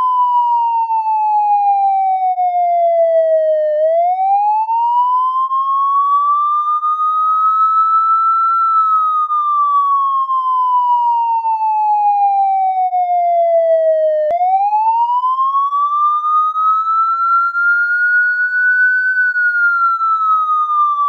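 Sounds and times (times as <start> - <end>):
police siren wailing: 0.0 - 21.0.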